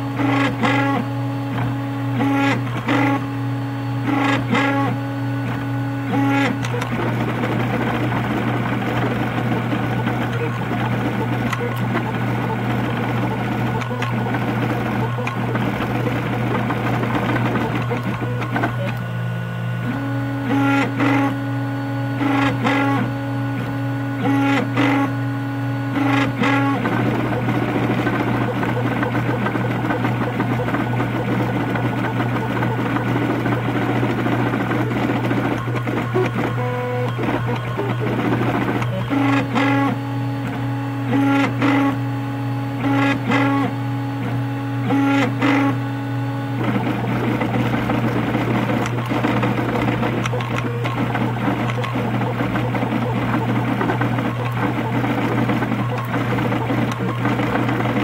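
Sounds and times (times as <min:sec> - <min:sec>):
stepper motors whining: 0:00.0 - 0:58.0.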